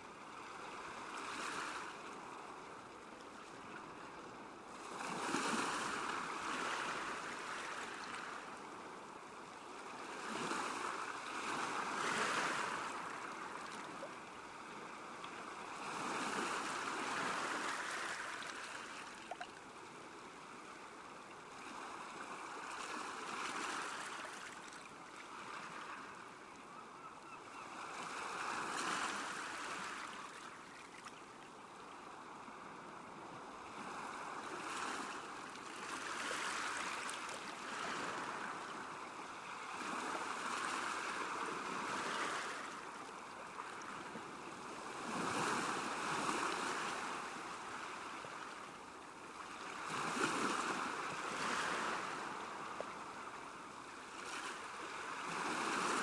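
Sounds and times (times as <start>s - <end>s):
small waves washing on shore: 0.1s - 56.0s.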